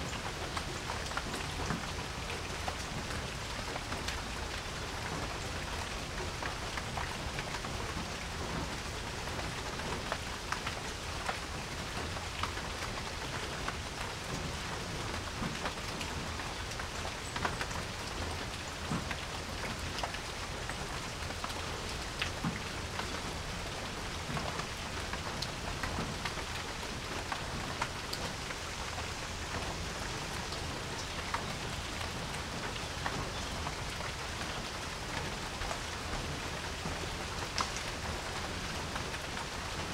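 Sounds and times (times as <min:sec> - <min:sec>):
rain on a porch: 0:00.0 - 0:39.9.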